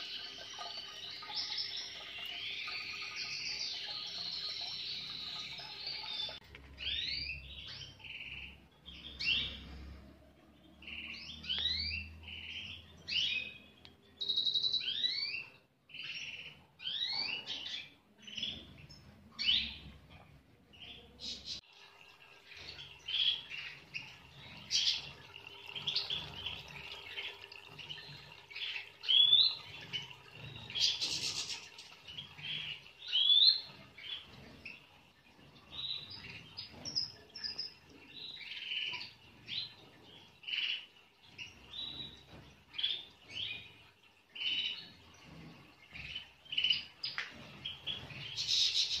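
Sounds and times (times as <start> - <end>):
goldfinches chirping and twittering: 0.0 - 21.6, 22.6 - 49.0.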